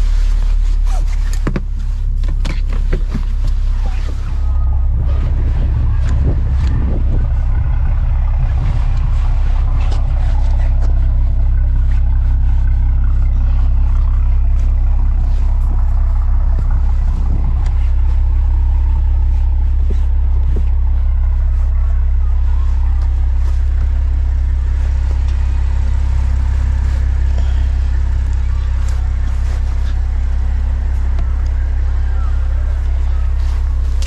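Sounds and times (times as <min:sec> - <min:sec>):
car engine droning: 0:00.0 - 0:34.0.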